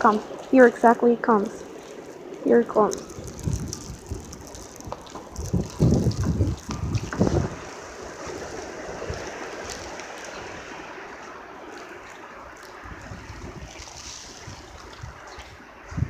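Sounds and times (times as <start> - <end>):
blizzard wind rushing: 0.0 - 16.0
wind buffeting microphone: 0.0 - 16.0.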